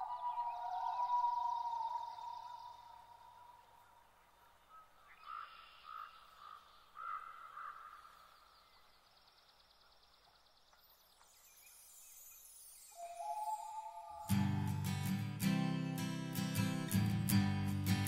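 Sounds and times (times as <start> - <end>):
soft bird calls: 0.0 - 15.1.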